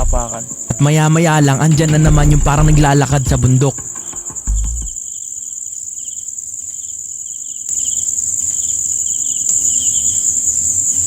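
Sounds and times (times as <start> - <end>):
crickets trilling: 0.0 - 11.0
lower pulsing insect chirp: 0.0 - 11.0.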